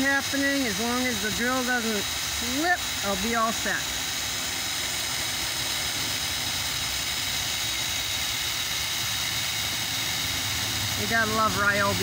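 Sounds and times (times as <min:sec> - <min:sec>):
drill boring through metal pole: 0:00.0 - 0:12.0.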